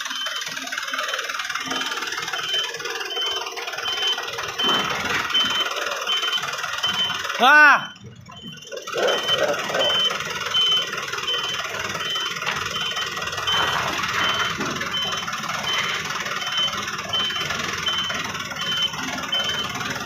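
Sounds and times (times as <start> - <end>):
electronic warning beeper: 0.0 - 19.8
vehicle engine running: 0.0 - 20.0.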